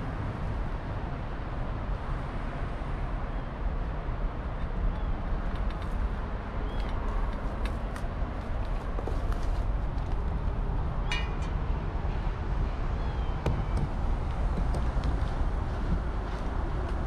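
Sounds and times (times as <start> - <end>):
distant city traffic rumble: 0.0 - 17.0.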